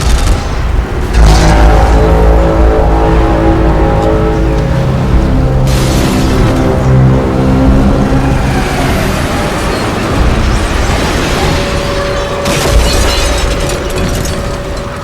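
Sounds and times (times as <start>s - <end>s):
heavy booms: 0.0s - 13.6s
dense rumbling: 0.0s - 15.0s.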